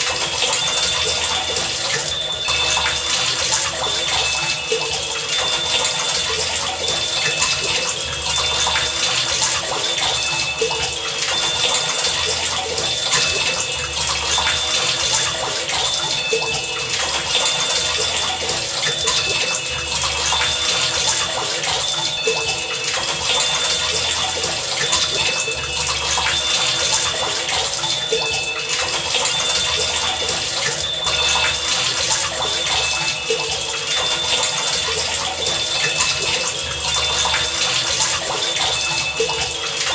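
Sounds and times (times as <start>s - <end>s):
heavy rain pouring: 0.0s - 39.9s
short high ringing tones: 0.0s - 39.9s.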